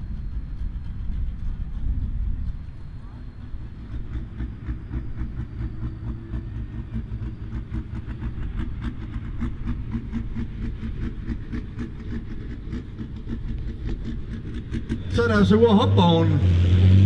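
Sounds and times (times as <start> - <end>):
diesel engine idling: 0.0 - 16.6.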